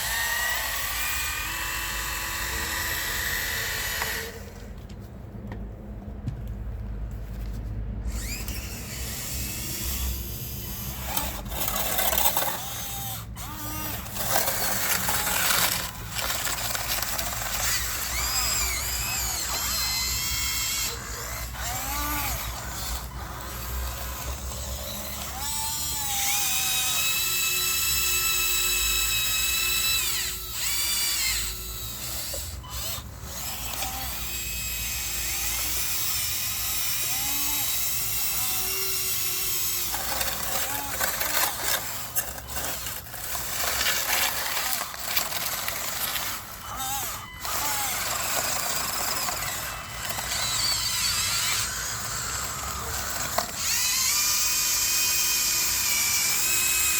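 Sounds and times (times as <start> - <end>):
electric motors whining: 0.0 - 5.0, 8.1 - 56.9.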